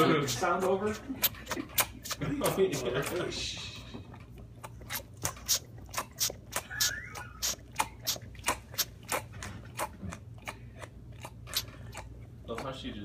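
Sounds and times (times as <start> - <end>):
dog sucking on rubber toy: 0.0 - 13.0.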